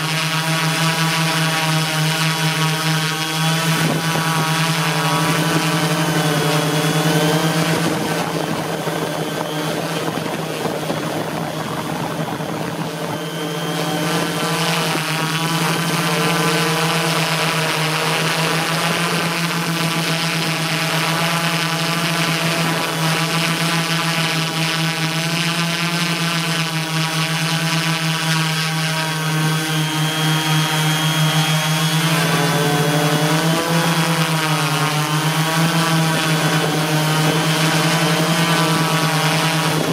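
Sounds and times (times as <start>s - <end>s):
drone motors and propellers droning: 0.0s - 39.9s.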